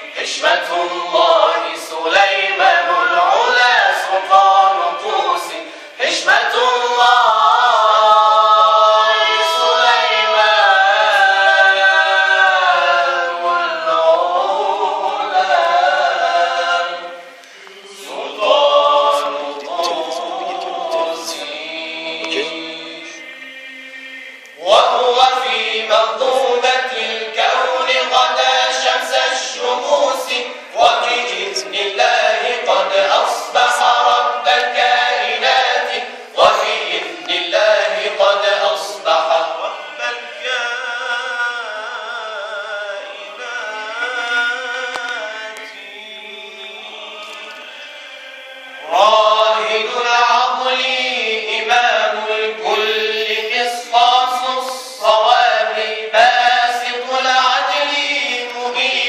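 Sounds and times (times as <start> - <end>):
men chanting unaccompanied: 0.0 - 59.0
low held vocal drone: 2.3 - 57.9.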